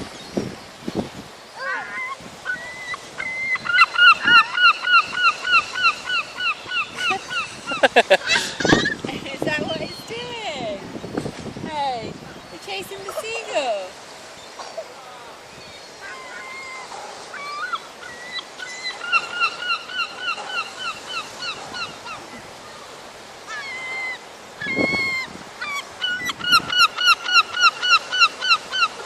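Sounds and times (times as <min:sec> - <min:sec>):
seagull calling: 0:01.4 - 0:10.6, 0:12.2 - 0:29.0.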